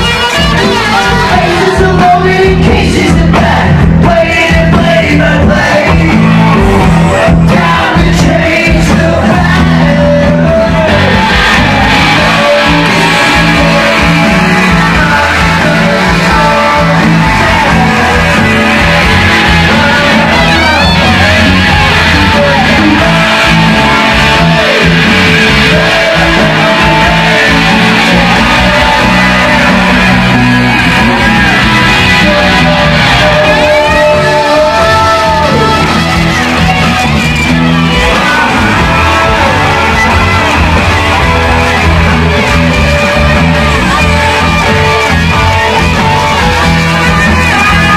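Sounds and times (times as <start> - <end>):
bass guitar: 0.0 - 47.9
drums: 0.0 - 47.9
electric guitar lead line: 0.0 - 47.9.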